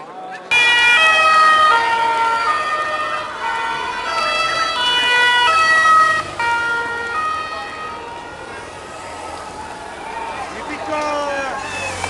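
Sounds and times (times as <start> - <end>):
two-tone police sirens: 0.5 - 12.0.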